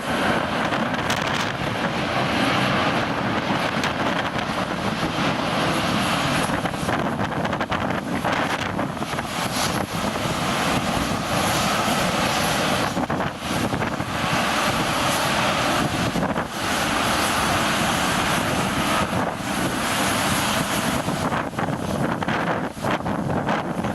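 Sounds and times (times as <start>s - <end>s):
jet engines roaring: 0.0s - 23.9s
wind on microphone: 0.0s - 23.9s.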